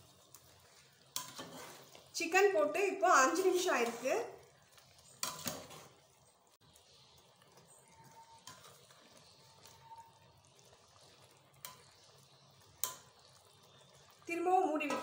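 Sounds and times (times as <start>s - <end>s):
wet stirring in gravy: 0.0s - 15.0s.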